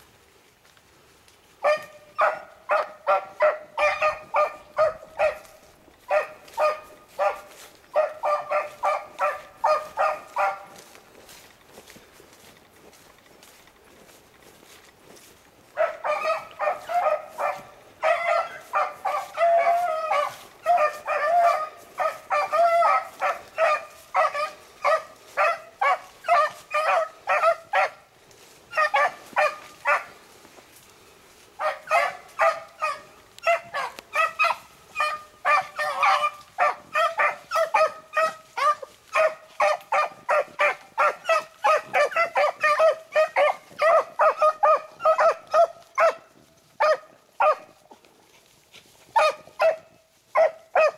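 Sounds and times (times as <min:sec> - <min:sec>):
hounds baying: 0:01.6 - 0:30.6, 0:31.3 - 0:50.9.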